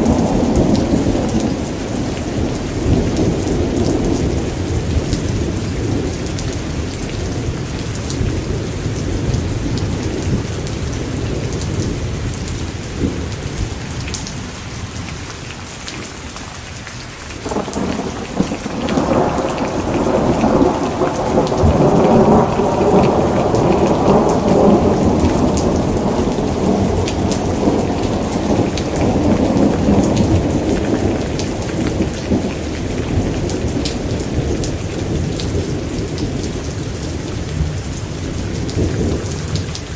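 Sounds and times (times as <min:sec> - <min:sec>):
rolling thunder: 0:00.0 - 0:12.1, 0:17.4 - 0:39.8
steady rain: 0:00.0 - 0:39.9.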